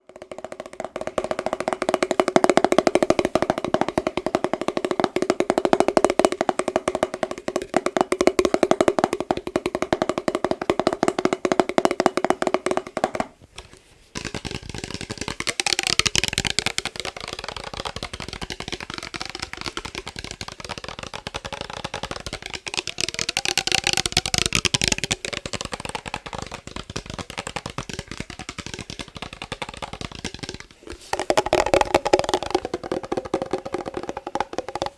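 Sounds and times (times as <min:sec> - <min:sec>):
fingertips tapping glass jar: 0:00.0 - 0:34.9.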